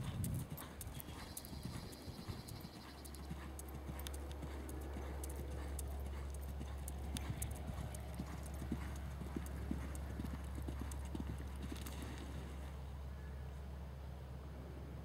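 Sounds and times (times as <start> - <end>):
hoofbeats on sand: 0.0 - 12.8.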